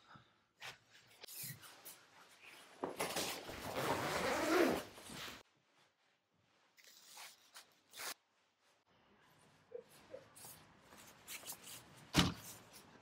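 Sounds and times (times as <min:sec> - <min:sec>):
clothing rustling: 0:00.6 - 0:13.0.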